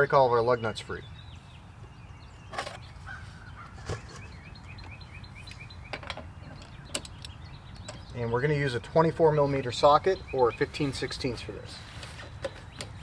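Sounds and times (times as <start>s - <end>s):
bird chirping: 0.0s - 13.0s
outdoor background noise: 0.0s - 13.0s.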